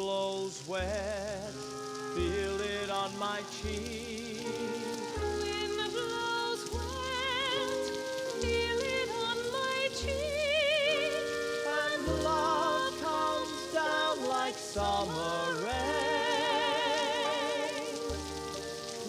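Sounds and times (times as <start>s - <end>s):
person singing with vibrato: 0.0s - 19.0s
instrumental accompaniment: 0.6s - 19.0s.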